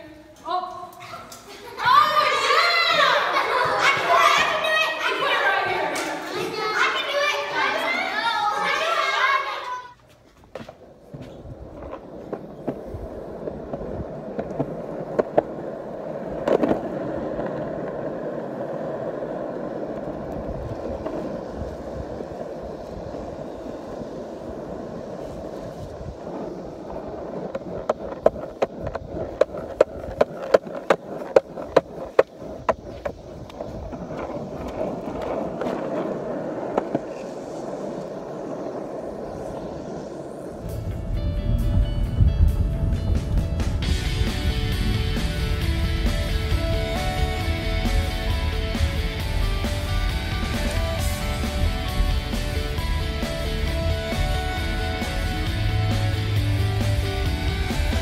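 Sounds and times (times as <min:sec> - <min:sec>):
skateboard wheels rolling on concrete: 0:00.0 - 0:58.0.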